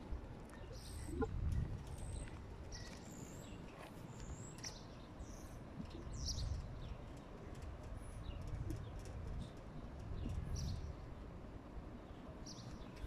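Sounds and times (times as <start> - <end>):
low outdoor rumble: 0.0 - 13.0
small birds chirping: 0.5 - 11.1, 12.0 - 13.0.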